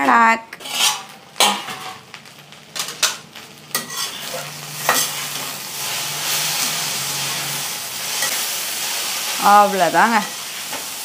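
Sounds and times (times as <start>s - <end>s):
okra sizzling in pan: 0.1s - 11.0s.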